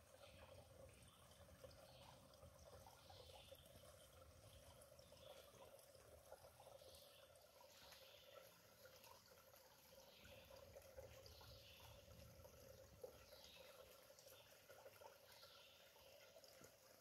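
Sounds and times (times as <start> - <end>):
stream trickling over rocks: 0.0 - 17.0
water dripping: 0.0 - 17.0.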